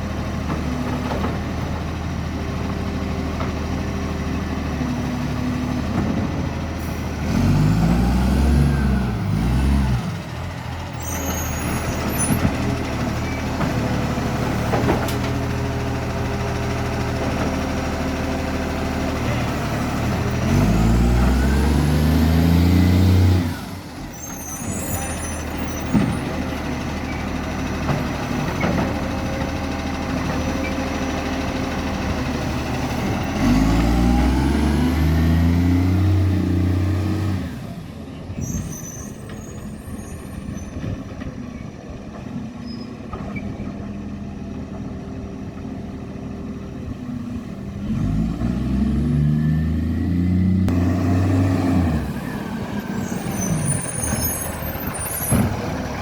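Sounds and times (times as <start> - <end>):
diesel truck engine revving: 0.0 - 42.0, 43.6 - 56.0.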